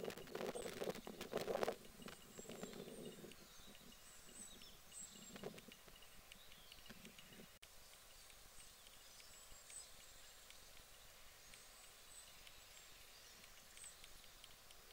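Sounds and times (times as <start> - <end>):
distant small birds chirping: 0.0 - 14.9.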